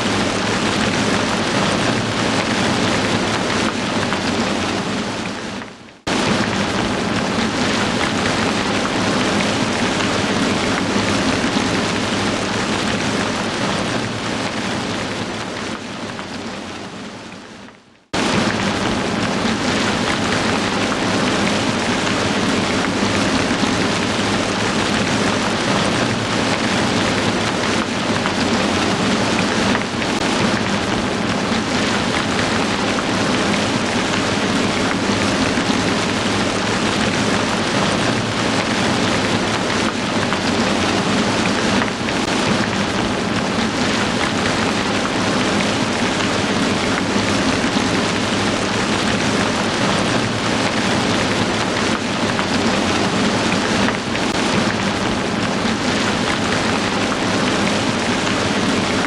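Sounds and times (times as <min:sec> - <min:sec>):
heavy rain hissing: 0:00.0 - 0:17.4, 0:18.1 - 0:59.0.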